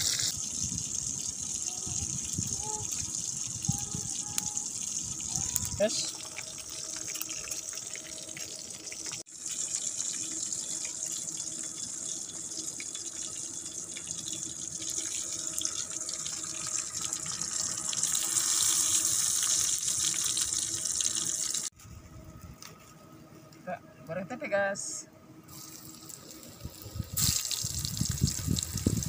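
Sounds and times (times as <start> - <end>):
fine crackling of frying food: 0.0 - 21.7, 25.5 - 29.0
oil sizzling in a wok: 0.0 - 21.7, 25.5 - 29.0.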